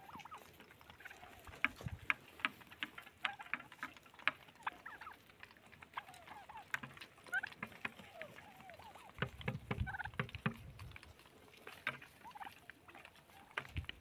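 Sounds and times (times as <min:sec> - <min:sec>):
soft wavering turkey calls: 0:00.0 - 0:14.0
turkeys clicking: 0:00.0 - 0:14.0.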